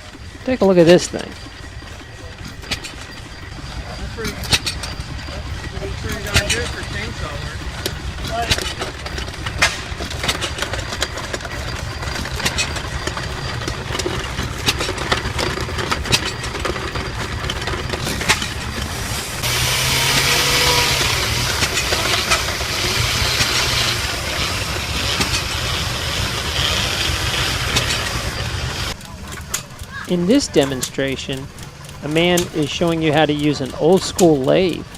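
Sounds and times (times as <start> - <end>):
loud hissing grinding noise: 0.0 - 29.0
stationary gas engine running: 0.0 - 34.9.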